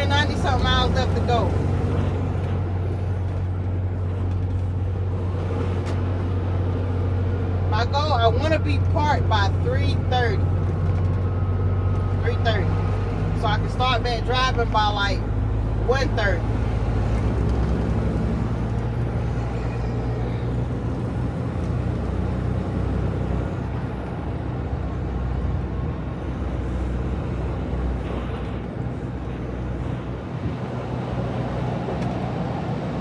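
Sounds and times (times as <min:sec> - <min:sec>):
road noise: 0:00.0 - 0:33.0
truck engine drone: 0:00.0 - 0:33.0.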